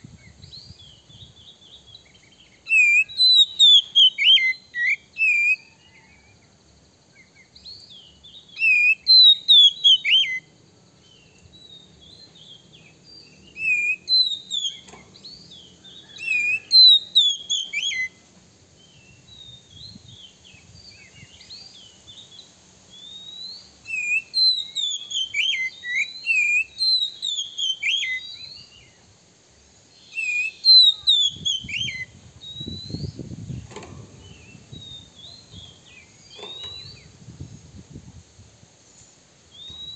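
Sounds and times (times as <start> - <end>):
bird singing whistles and trills: 0.0 - 6.5, 7.1 - 18.2, 18.8 - 29.0, 29.9 - 38.0, 38.9 - 39.9.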